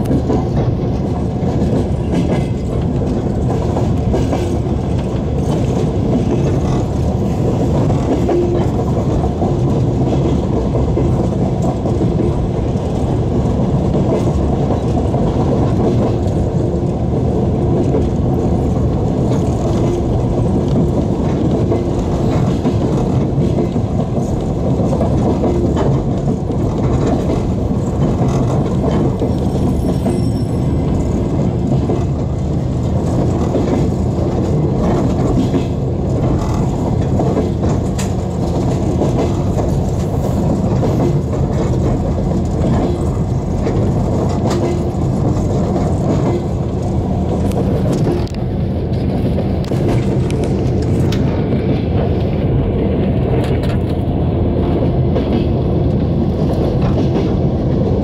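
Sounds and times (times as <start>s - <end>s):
train carriage rumbling on track: 0.0s - 58.0s.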